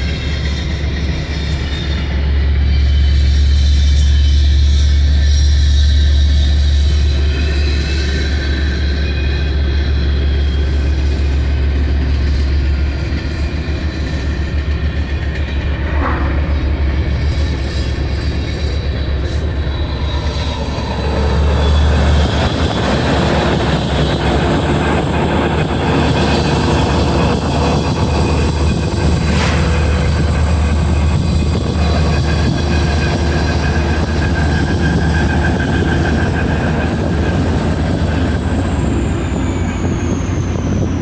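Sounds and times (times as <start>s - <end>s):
train cars pulsing over track: 0.0s - 41.0s
train rumbling past: 0.0s - 41.0s.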